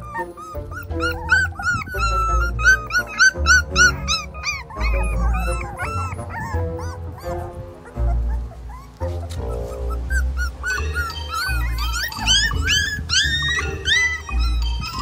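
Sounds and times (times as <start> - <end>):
background music with low bass: 0.0 - 15.0
puppies whimpering and yipping: 0.0 - 15.0.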